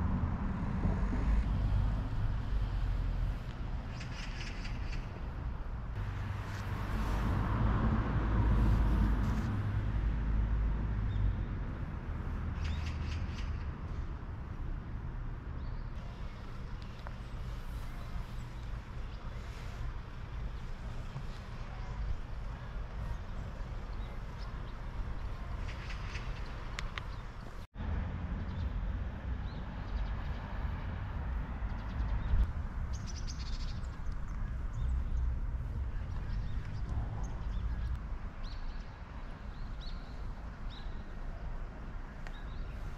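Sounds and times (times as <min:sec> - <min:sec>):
traffic rumble: 0:00.0 - 0:42.9.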